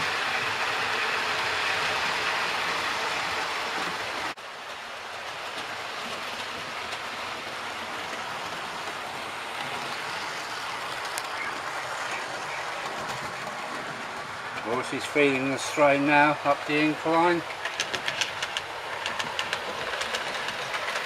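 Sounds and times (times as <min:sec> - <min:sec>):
model trains whirring on track: 0:00.0 - 0:21.0.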